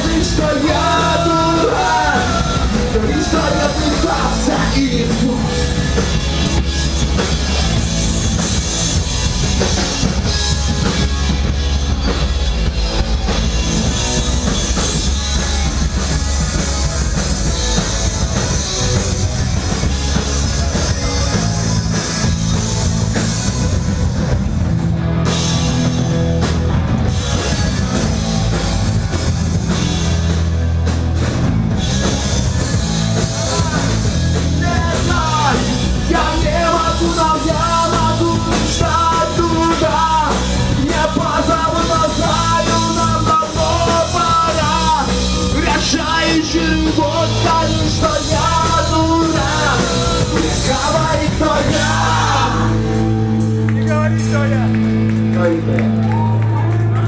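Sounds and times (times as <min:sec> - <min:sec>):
driving drum kit: 0:00.0 - 0:57.0
punk rock band playing live: 0:00.0 - 0:57.0.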